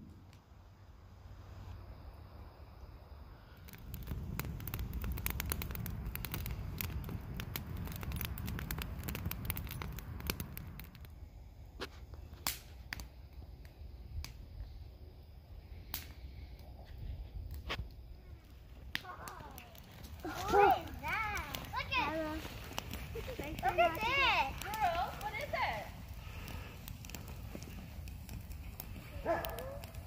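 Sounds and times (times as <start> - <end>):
campfire crackling and popping: 2.8 - 30.0.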